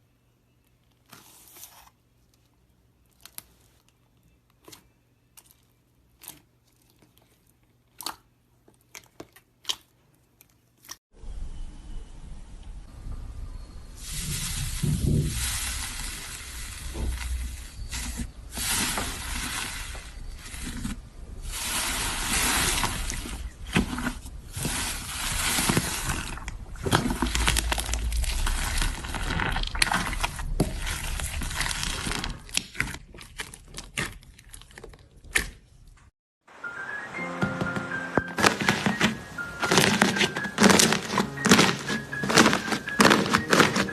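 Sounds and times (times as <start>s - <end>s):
slime squishing and crackling: 0.8s - 11.0s, 14.0s - 35.9s, 38.4s - 43.9s.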